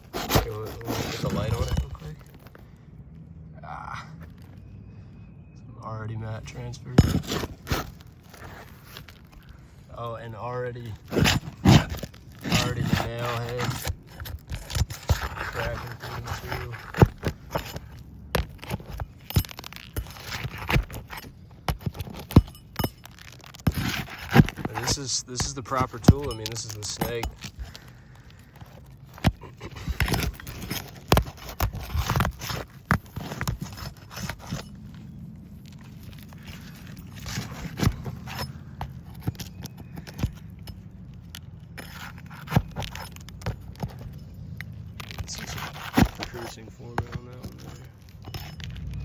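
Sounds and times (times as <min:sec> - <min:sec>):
tool scraping under shingles: 0:00.0 - 0:02.8, 0:06.2 - 0:49.0.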